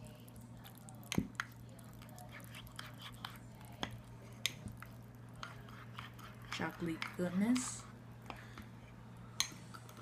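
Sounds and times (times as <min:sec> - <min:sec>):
spoon stirring batter in a mug: 0:00.0 - 0:10.0.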